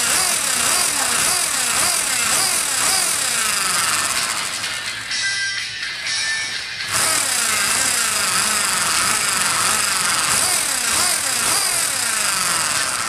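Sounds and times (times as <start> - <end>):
plastic ride model whirring rattle: 0.0 - 5.1, 6.4 - 13.0.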